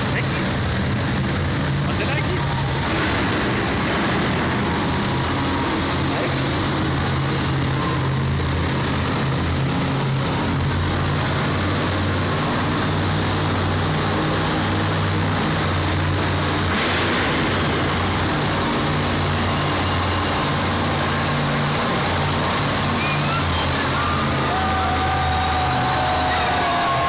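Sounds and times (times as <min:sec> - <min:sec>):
monster truck engine running: 0:00.0 - 0:27.0.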